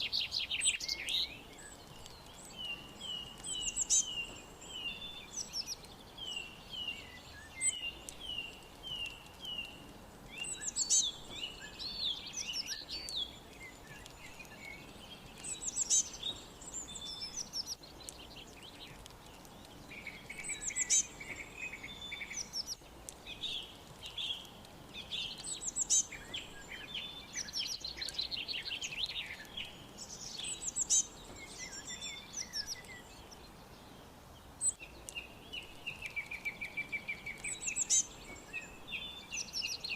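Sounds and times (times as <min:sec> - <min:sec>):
birds chirping and singing: 0:00.0 - 0:39.9
faint steady hiss: 0:00.0 - 0:39.9
loud high bird song: 0:00.0 - 0:39.9.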